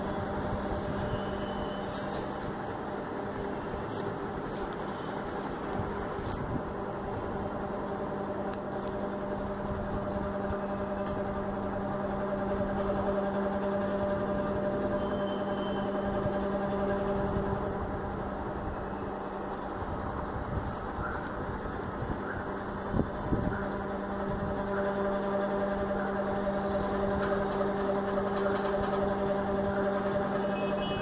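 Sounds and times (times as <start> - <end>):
fan humming and whirring: 0.0 - 31.0.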